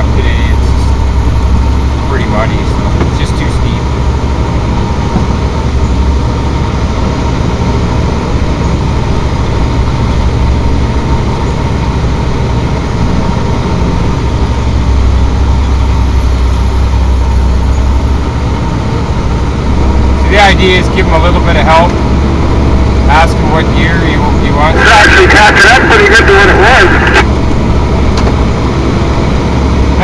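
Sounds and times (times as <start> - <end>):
truck diesel engine rumbling: 0.0 - 30.0.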